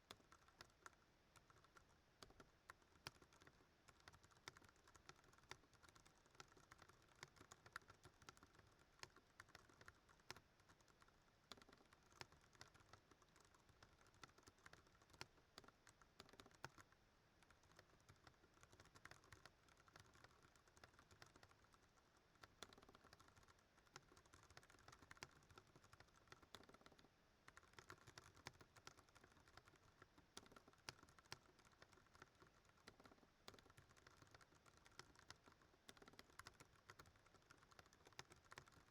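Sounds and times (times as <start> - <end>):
mechanical keyboard typing: 0.1 - 38.9.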